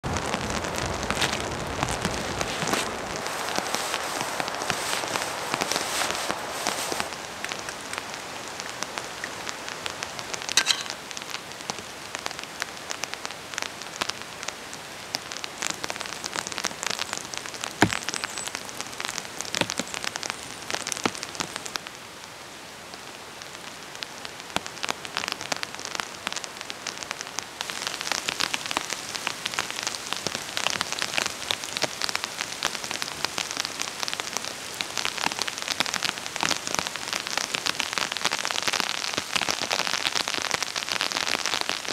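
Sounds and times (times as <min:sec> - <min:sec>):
rain drops ticking on foliage: 0:00.0 - 0:41.9.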